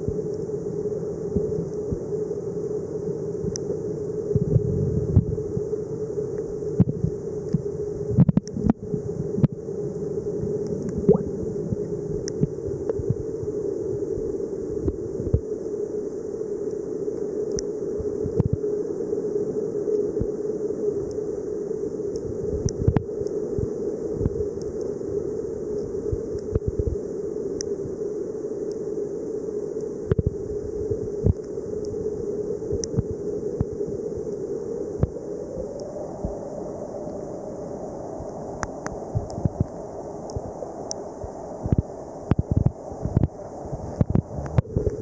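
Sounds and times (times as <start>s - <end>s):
underwater low hum: 0.0s - 45.0s.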